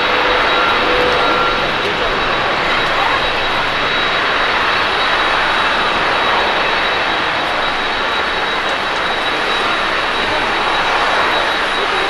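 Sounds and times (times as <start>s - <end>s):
high engine whine: 0.0s - 12.0s
jet engines roaring: 0.0s - 12.0s.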